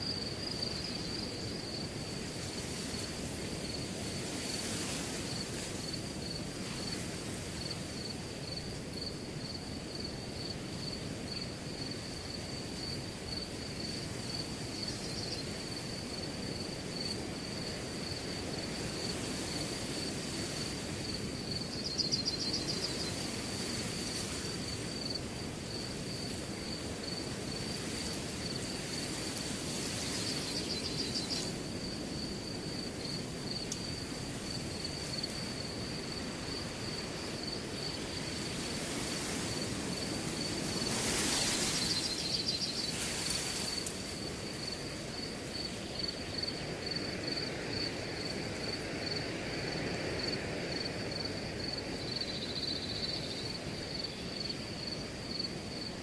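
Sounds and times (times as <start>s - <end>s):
crickets chirping: 0.0s - 56.0s
wind through grass: 0.0s - 56.0s.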